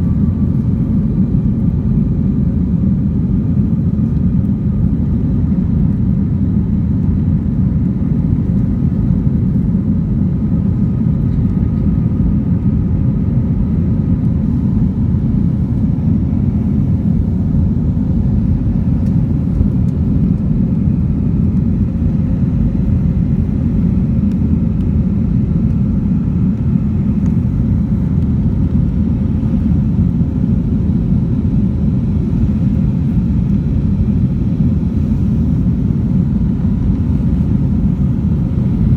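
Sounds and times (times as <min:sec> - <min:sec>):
airliner engine rumble: 0:00.0 - 0:38.9
faint steady hum: 0:00.0 - 0:38.9.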